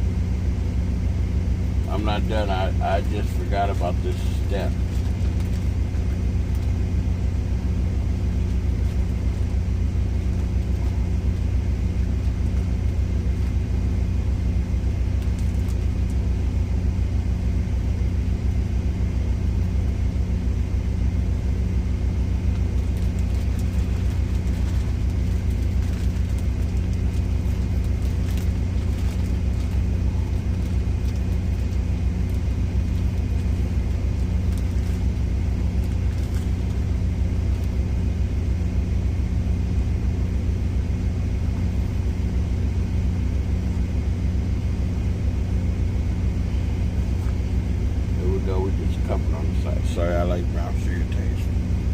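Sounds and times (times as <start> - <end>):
diesel truck engine idling: 0.0 - 51.9.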